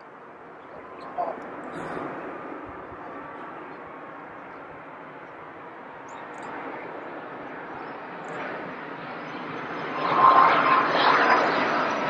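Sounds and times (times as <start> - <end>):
jet airliner engine noise: 0.0 - 12.0.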